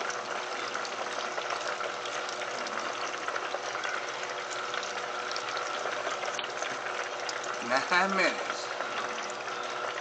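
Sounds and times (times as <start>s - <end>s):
food sizzling in a deep fryer: 0.0s - 10.0s.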